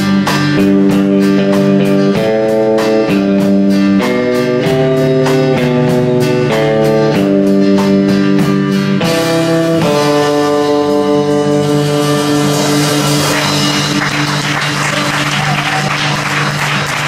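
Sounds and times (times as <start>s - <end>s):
rockabilly band playing: 0.0s - 17.0s
strummed guitar chords: 0.0s - 17.0s.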